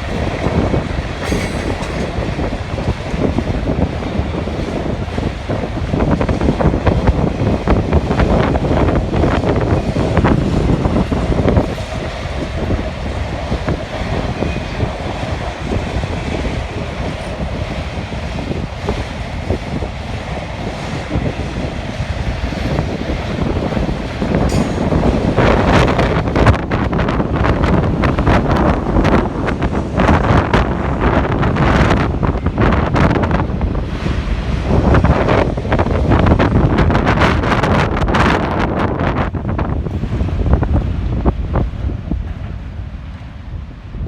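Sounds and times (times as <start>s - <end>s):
freight train rolling past: 0.0s - 44.0s
wind buffeting microphone: 0.0s - 44.0s.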